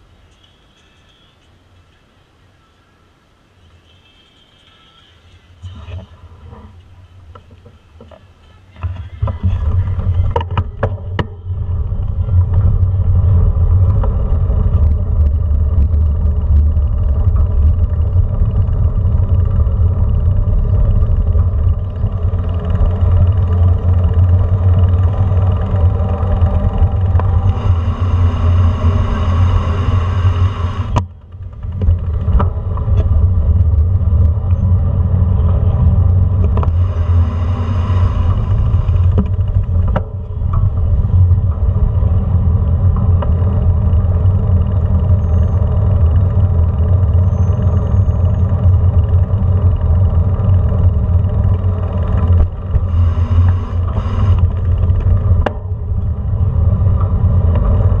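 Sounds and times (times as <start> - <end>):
tyres rolling over brick pavers: 4.7 - 58.0
wind buffeting microphone: 8.9 - 58.0.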